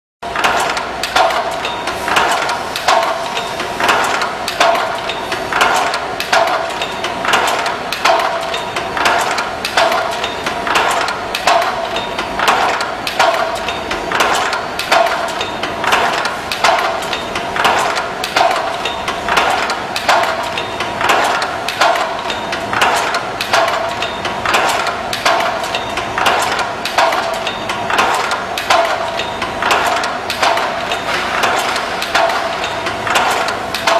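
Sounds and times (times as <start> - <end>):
chain-making machine clanking: 0.3 - 33.9.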